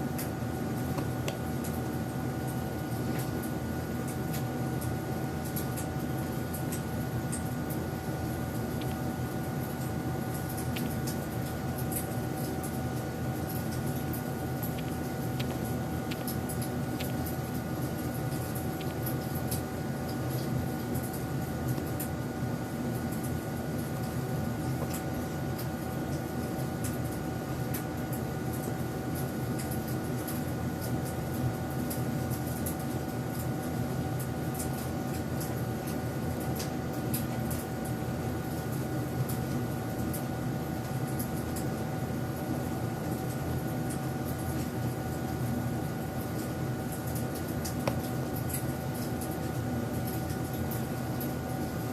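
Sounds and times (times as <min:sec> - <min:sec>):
mechanical hum with whine: 0:00.0 - 0:51.9.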